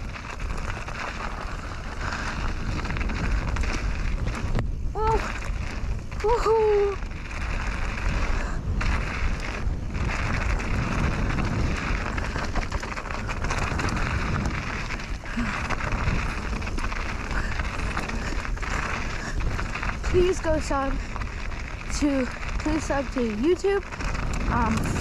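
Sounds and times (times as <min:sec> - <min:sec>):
bike tyre rumble and rattle: 0:00.0 - 0:25.0
wind rush on microphone: 0:00.0 - 0:25.0.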